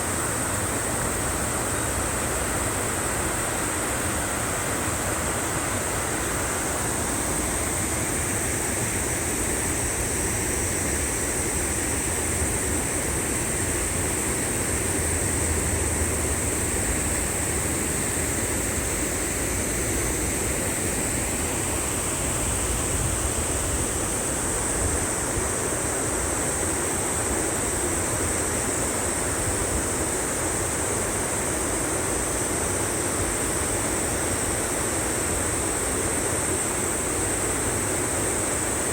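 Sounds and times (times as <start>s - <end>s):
constant high hiss: 0.0s - 38.9s
stream water rushing: 0.0s - 38.9s.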